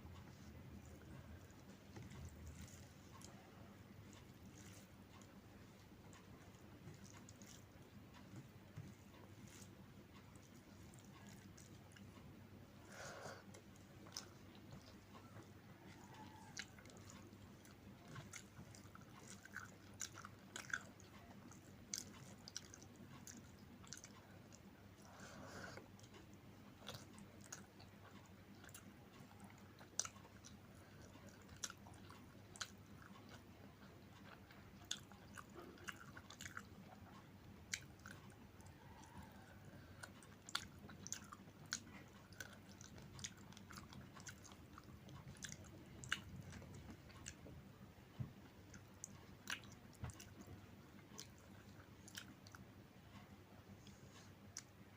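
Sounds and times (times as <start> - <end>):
faint steady hum: 0.0 - 54.9
person chewing food: 0.1 - 54.9.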